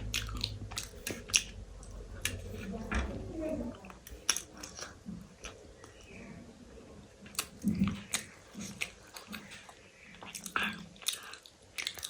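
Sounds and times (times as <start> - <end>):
person chewing: 0.0 - 2.8, 3.8 - 6.1, 7.2 - 12.0.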